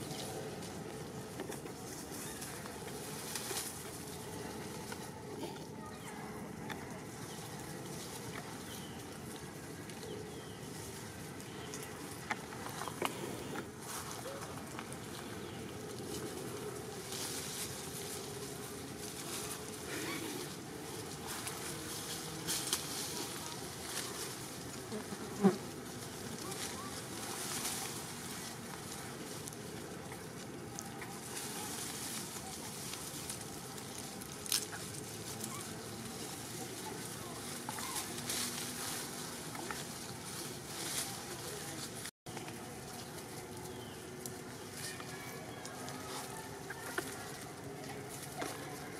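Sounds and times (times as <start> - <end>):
steady outdoor hiss: 0.0 - 48.9.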